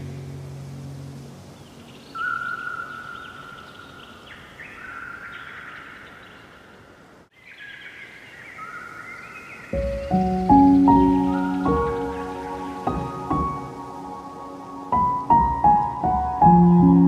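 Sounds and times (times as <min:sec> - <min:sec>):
faint background hiss: 0:00.0 - 0:17.0
songbirds singing: 0:00.0 - 0:17.0.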